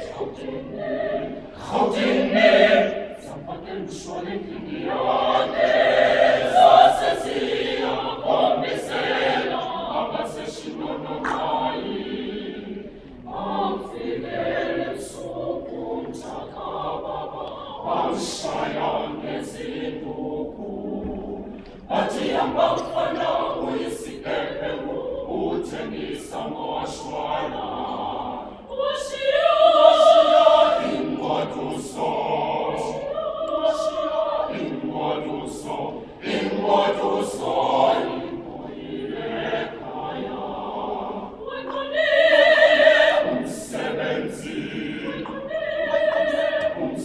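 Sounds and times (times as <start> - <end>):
choir singing: 0.0 - 47.0.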